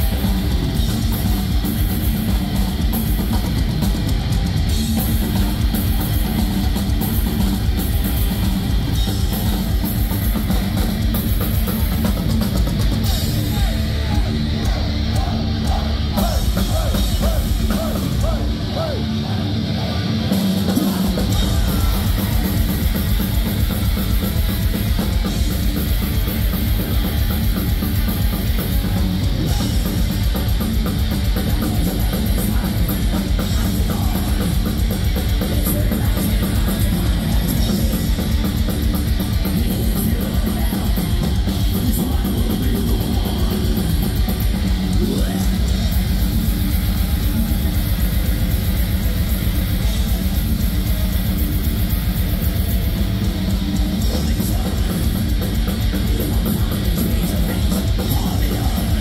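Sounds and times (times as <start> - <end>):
distorted guitars and bass: 0.0 - 59.0
fast drumming: 0.0 - 59.0.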